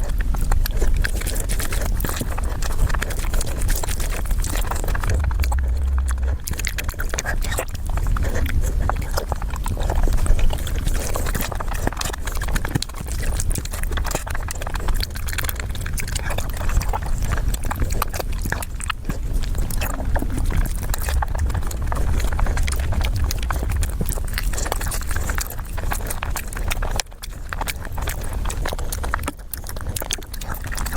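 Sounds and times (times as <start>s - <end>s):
steady low hum: 0.0s - 30.9s
wet chewing and mouth clicks: 0.0s - 30.9s.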